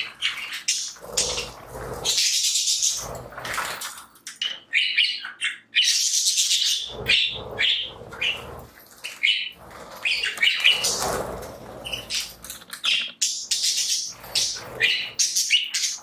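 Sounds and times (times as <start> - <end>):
budgies chirping and chattering: 0.0 - 16.0.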